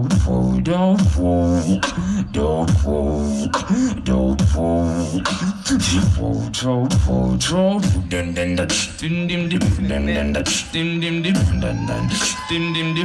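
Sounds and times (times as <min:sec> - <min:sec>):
person beatboxing: 0:00.0 - 0:13.0
sliding vocal line: 0:00.0 - 0:13.0.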